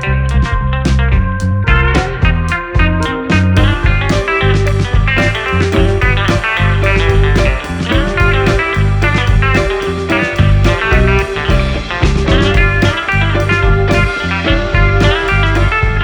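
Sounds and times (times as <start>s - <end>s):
guitar rock music: 0.0s - 16.0s.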